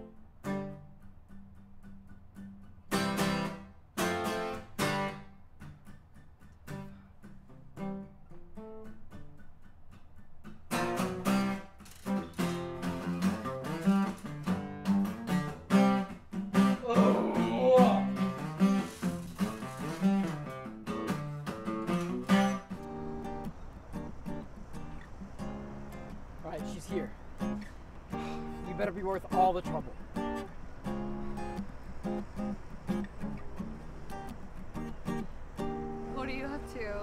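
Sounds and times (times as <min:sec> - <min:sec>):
acoustic guitar playing: 0:00.0 - 0:37.0.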